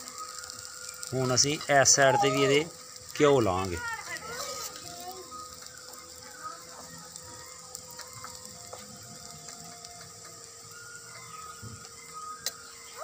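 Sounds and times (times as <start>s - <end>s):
ghee sizzling on hot pan: 0.0s - 13.0s.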